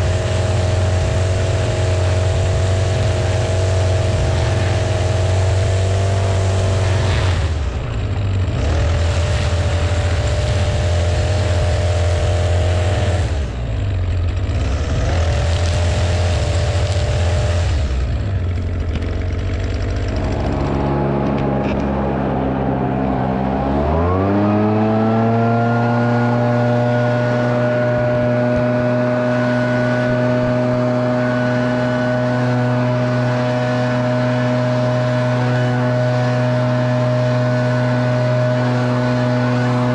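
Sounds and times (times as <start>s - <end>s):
small engine at high speed: 0.0s - 39.9s
string trimmer engine running: 0.0s - 39.9s.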